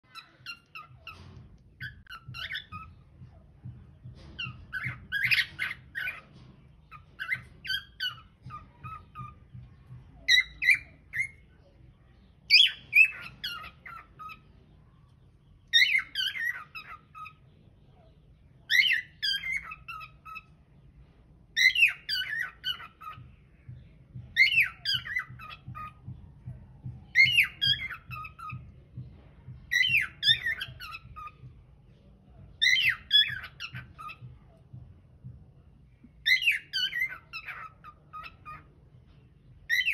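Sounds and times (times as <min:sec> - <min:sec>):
cockatiel chirping: 0:00.1 - 0:11.5, 0:12.5 - 0:14.5, 0:15.6 - 0:20.6, 0:21.6 - 0:23.3, 0:24.1 - 0:28.7, 0:29.5 - 0:31.6, 0:32.5 - 0:35.4, 0:36.1 - 0:38.7, 0:39.6 - 0:39.9.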